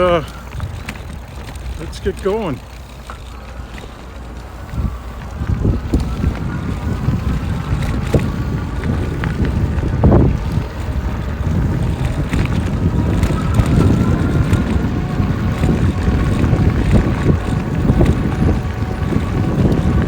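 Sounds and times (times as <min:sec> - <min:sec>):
electric motor whine: 0:00.0 - 0:20.0
wind buffeting microphone: 0:00.0 - 0:20.0.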